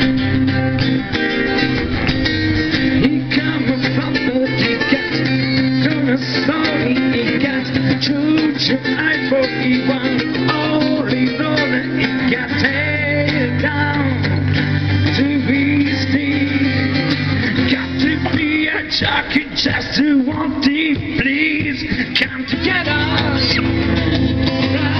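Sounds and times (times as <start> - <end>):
bass line: 0.0 - 24.9
strummed acoustic guitars: 0.0 - 24.9.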